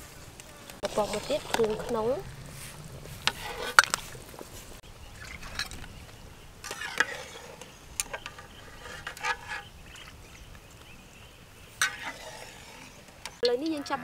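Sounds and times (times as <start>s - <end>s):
metal ladle scraping a pot: 0.8s - 10.4s, 11.6s - 13.4s.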